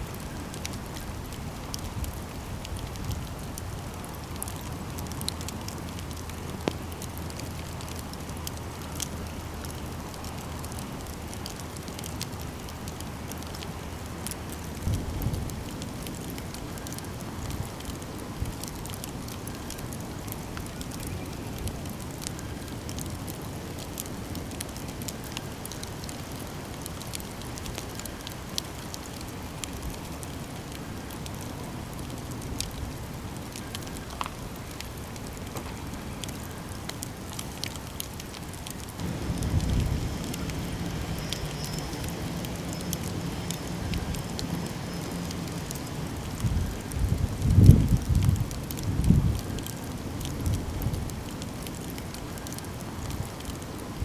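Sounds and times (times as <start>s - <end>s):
campfire burning: 0.0s - 54.0s
wood crackling and popping: 0.0s - 54.0s.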